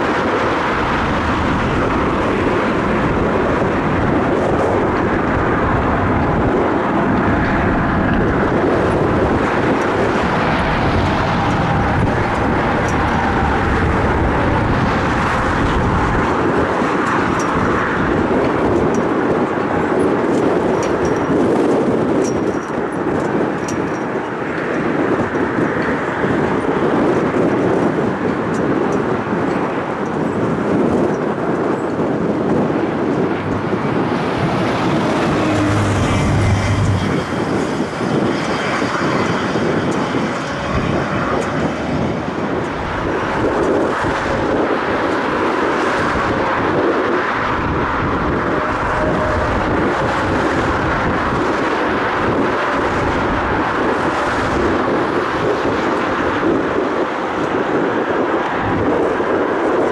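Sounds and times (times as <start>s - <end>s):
jet airliner engine: 0.0s - 20.0s, 20.6s - 59.9s
wind buffeting microphone: 0.0s - 59.9s.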